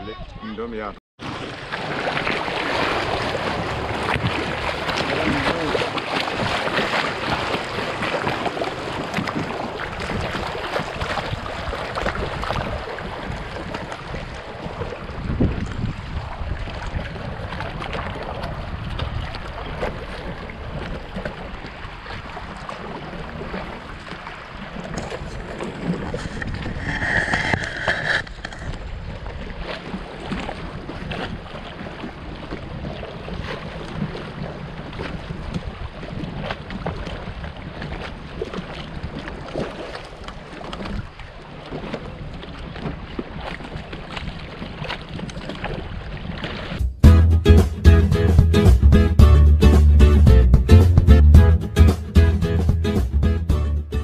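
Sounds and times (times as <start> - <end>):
paddle splashing: 1.2 - 47.0
water washing against hull: 1.2 - 47.0
wind buffeting microphone: 2.8 - 46.8.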